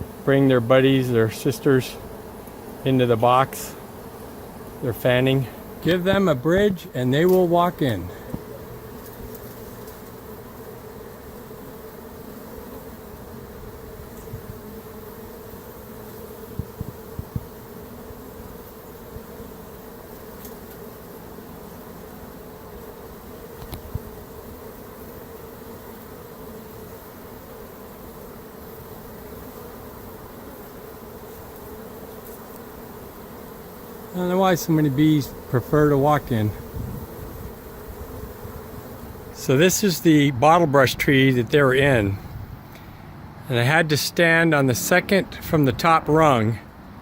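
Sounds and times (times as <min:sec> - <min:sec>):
honeybee swarm buzzing: 0:00.0 - 0:47.0.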